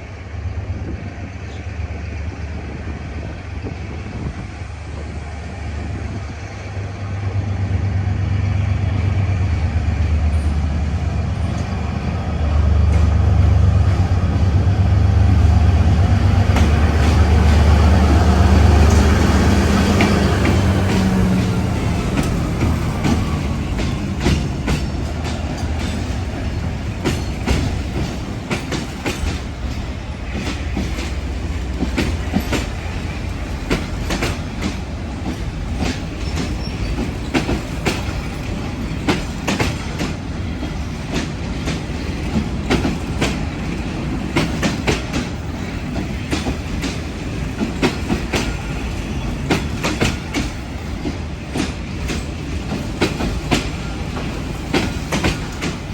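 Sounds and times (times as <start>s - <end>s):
train rumble: 0.0s - 55.9s
train wheels clacking: 8.5s - 55.9s.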